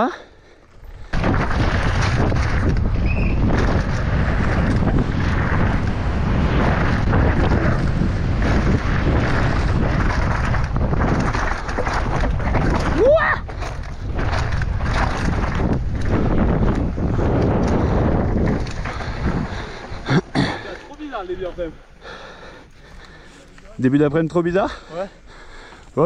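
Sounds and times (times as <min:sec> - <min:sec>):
bike rattling over rough ground: 0:00.0 - 0:26.0
wind buffeting the microphone: 0:00.8 - 0:26.0.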